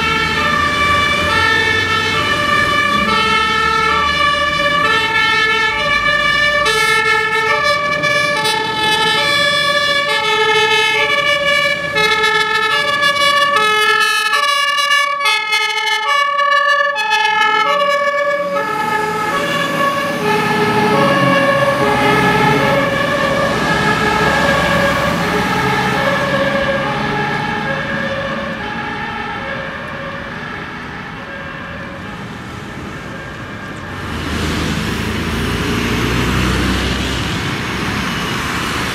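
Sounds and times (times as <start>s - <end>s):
truck engine and tyre noise: 0.0s - 38.9s
two-tone fire engine siren: 0.0s - 38.9s.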